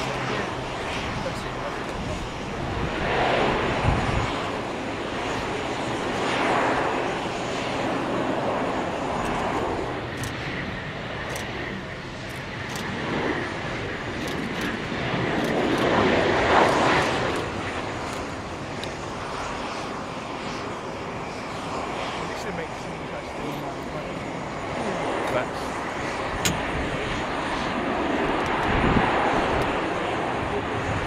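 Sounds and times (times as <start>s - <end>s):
jet airliner arriving: 0.0s - 31.0s
turboprop aircraft landing: 0.0s - 31.0s.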